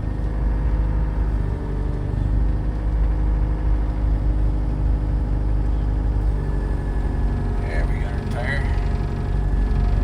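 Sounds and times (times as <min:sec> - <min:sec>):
skid loader engine running: 0:00.0 - 0:10.0.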